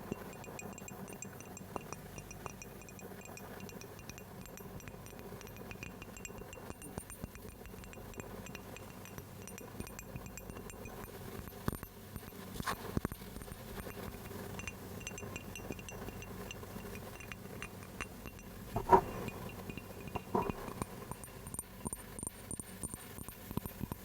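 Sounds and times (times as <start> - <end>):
taps and clinks on small objects: 0.0 - 24.0.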